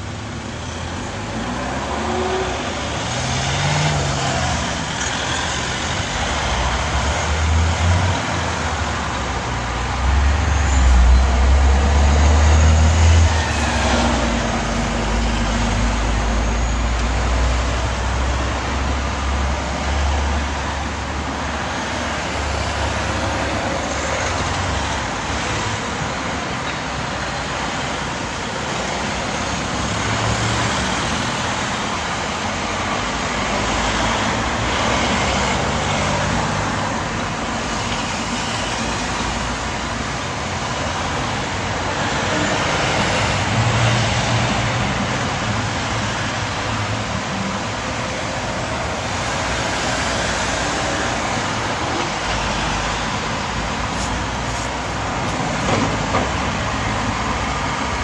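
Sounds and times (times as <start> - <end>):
traffic passing: 0.0 - 58.0.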